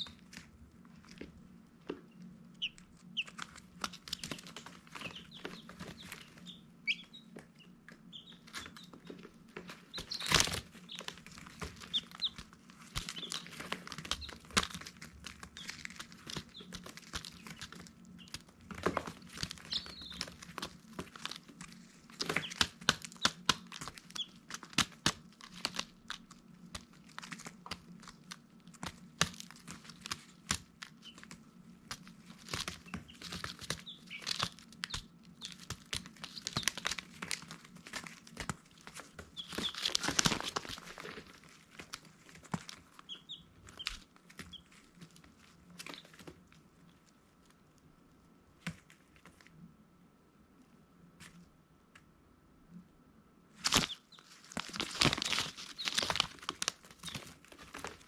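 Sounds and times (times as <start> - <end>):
chicks peeping: 0.0 - 46.4, 53.6 - 58.0
chicks pecking and scuffling: 0.0 - 49.7, 53.5 - 58.0.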